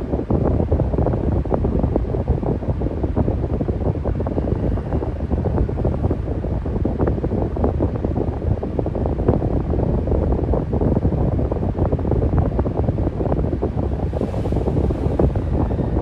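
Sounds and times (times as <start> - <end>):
electric fan whoosh: 0.0 - 16.0
wind buffeting on microphone: 0.0 - 16.0.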